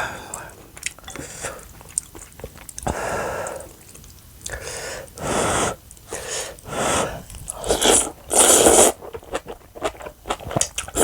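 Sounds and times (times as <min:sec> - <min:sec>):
person chewing noodles: 0:00.2 - 0:05.2, 0:06.8 - 0:11.0.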